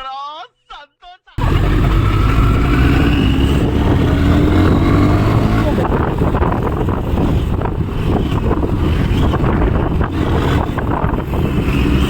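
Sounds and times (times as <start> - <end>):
road vehicle rumble: 1.4 - 12.0
wind buffeting microphone: 1.4 - 12.0.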